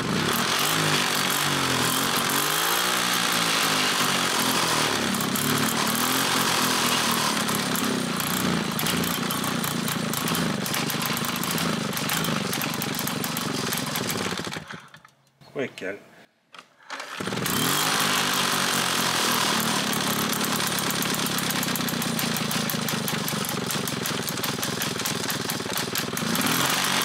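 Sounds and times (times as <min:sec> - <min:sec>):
moped engine revving and idling: 0:00.0 - 0:15.0, 0:17.0 - 0:27.0.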